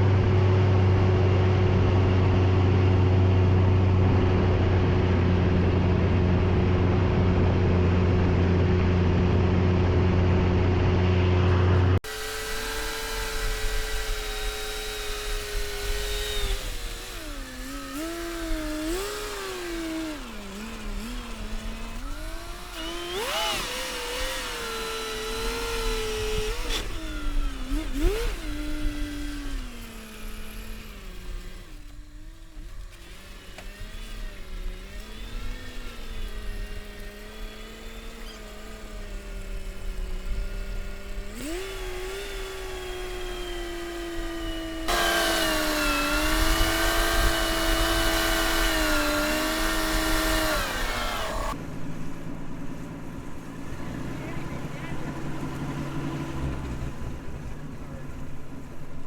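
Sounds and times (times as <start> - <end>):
snow vehicle engine revving: 0.0 - 59.0.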